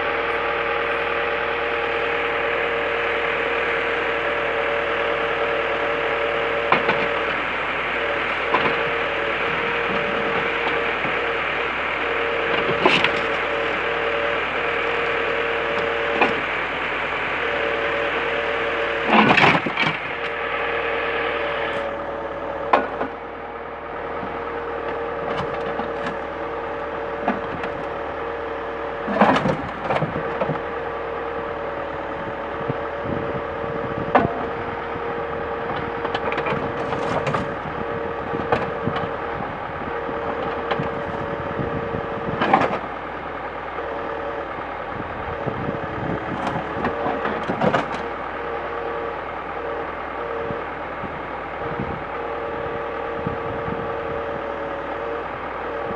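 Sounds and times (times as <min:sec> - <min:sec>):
truck engine and hydraulic whine: 0:00.0 - 0:55.9.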